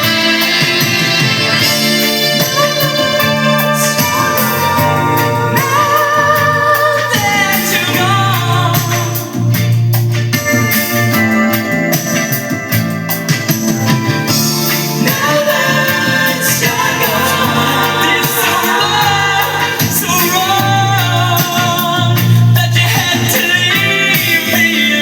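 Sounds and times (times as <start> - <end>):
pop song with singing: 0.0 - 25.0.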